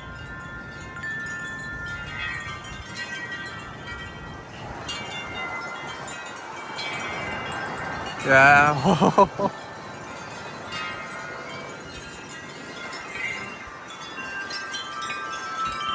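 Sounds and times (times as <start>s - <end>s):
wind chimes ringing: 0.0s - 15.9s.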